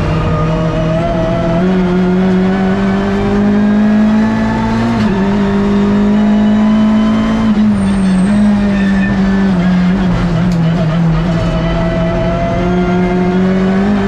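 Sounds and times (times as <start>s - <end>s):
race car engine under throttle: 0.0s - 14.0s.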